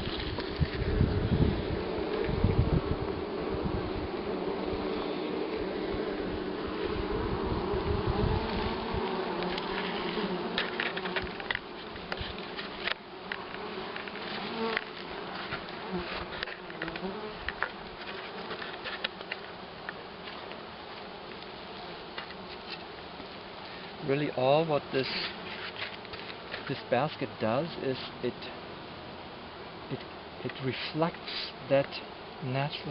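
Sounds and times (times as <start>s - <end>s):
honeybees buzzing: 0.0s - 32.9s.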